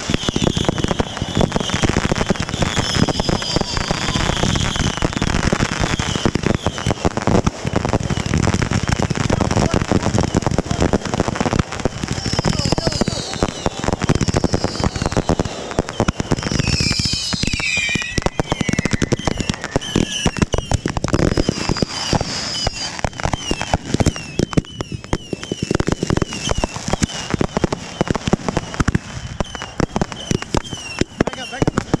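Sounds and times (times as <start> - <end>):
fireworks cracks and bangs: 0.0 - 32.0
fireworks whistling: 0.0 - 32.0.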